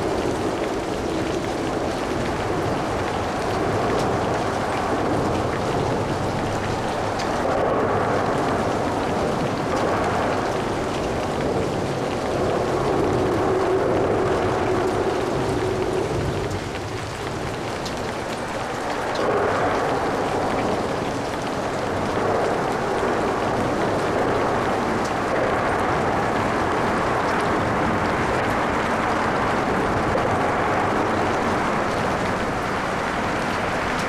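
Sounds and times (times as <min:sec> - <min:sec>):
rain pattering: 0:00.0 - 0:34.0
tyres hissing on wet road: 0:00.0 - 0:34.0.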